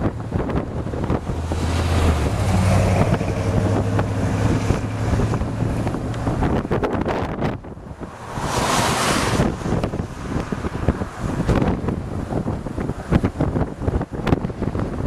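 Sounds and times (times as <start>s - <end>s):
vehicle engine rumble: 0.0s - 15.0s
wind buffeting microphone: 0.0s - 15.0s.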